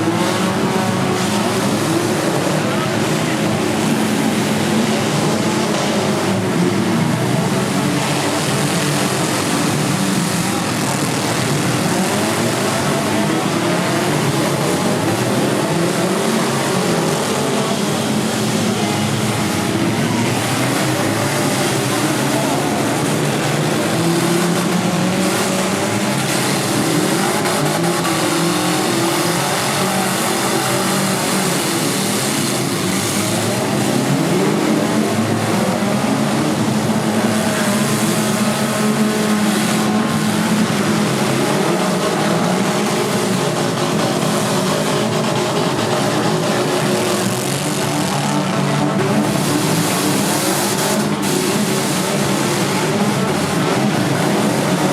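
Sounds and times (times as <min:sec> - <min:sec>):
many car engines revving: 0:00.0 - 0:54.9.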